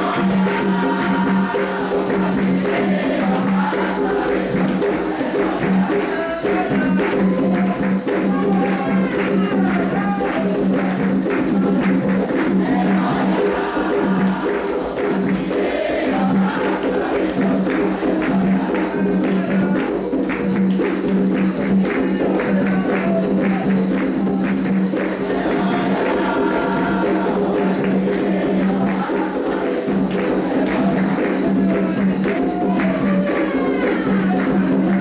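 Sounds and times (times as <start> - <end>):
hand drums and percussion: 0.0 - 35.0
voices singing a chant: 0.0 - 35.0.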